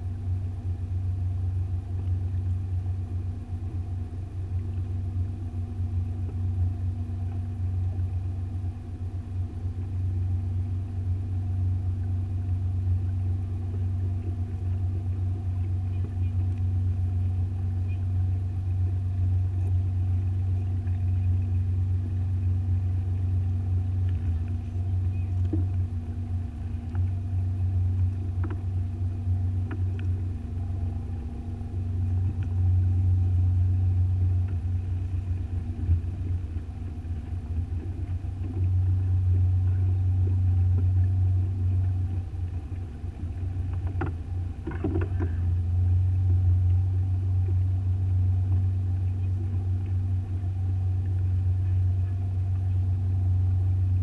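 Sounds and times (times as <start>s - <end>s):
faint steady whining tones: 0.0s - 54.0s
motorboat engine rumbling: 0.0s - 54.0s.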